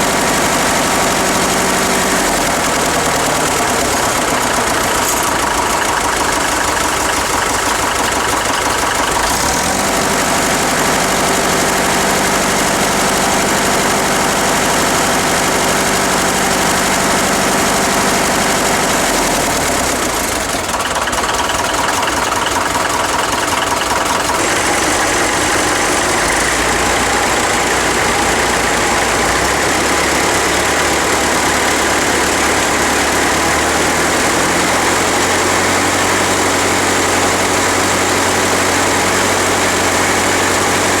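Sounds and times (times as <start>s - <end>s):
tractor engine idling: 0.0s - 41.0s.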